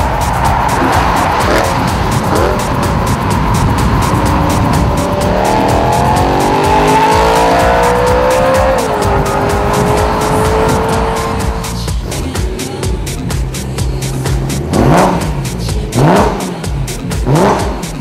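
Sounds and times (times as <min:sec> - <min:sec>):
car engine accelerating hard: 0:00.0 - 0:12.4, 0:14.0 - 0:18.0.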